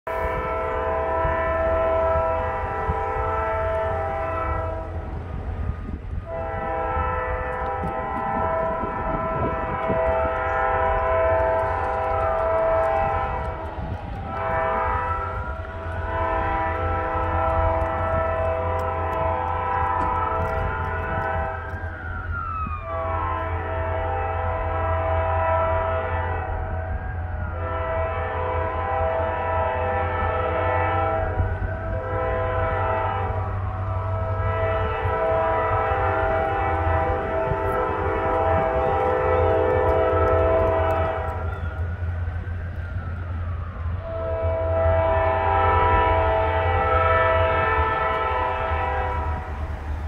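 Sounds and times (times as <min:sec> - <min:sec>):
train air horn blasts: 0:00.0 - 0:22.1, 0:22.7 - 0:50.0.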